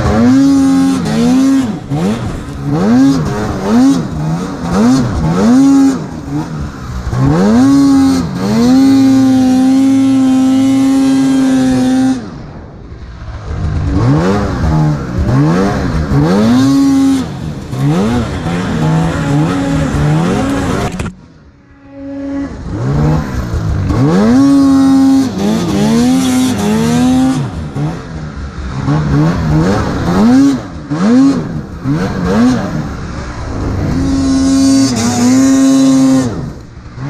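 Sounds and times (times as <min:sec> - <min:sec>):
snowmobile engine revving: 0:00.0 - 0:12.6, 0:13.2 - 0:37.0.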